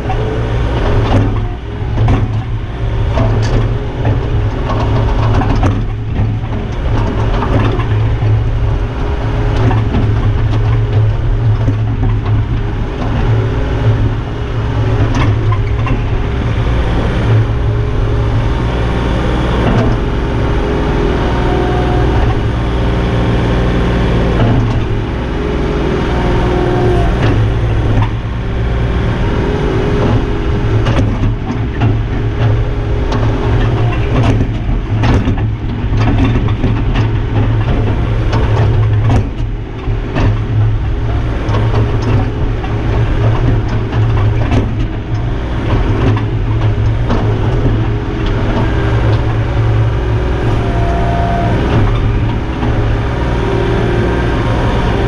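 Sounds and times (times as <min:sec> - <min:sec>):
metal knocks and clanks: 0:00.0 - 0:22.6, 0:24.2 - 0:53.4
diesel engine drone: 0:00.0 - 0:55.0
hydraulic whine: 0:00.0 - 0:55.0.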